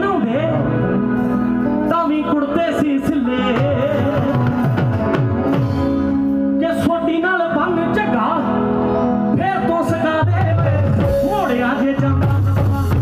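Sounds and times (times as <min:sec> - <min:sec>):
man singing: 0:00.0 - 0:05.2, 0:06.6 - 0:13.0.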